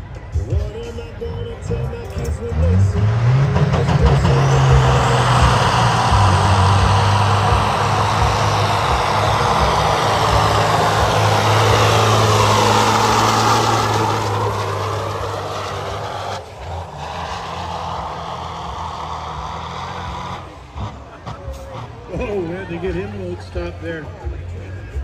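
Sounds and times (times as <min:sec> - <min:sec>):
diesel truck engine roaring: 0:00.0 - 0:25.0.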